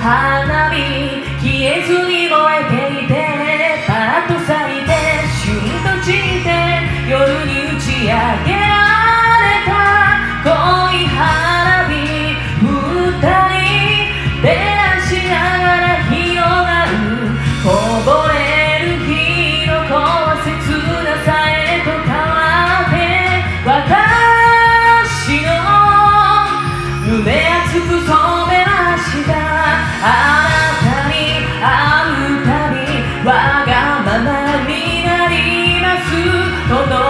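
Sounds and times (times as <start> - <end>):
bass: 0.0 - 37.0
person singing pop ballad: 0.0 - 37.0.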